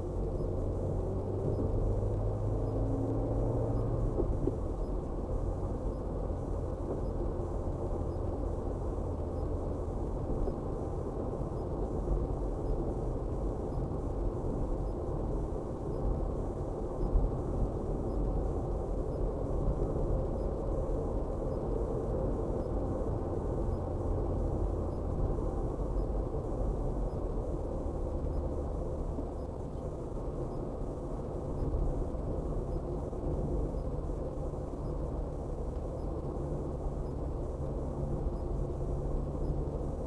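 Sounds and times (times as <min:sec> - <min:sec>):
car driving rumble: 0:00.0 - 0:40.0
low engine hum: 0:00.0 - 0:40.0.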